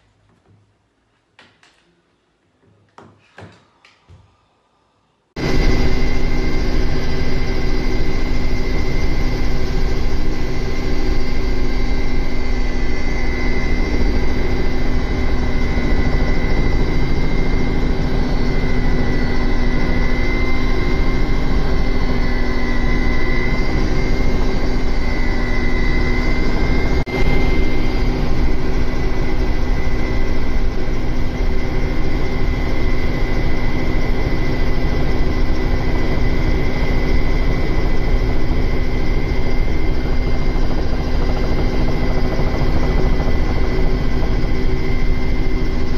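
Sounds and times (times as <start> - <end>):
helicopter engine and rotor: 5.4 - 45.9.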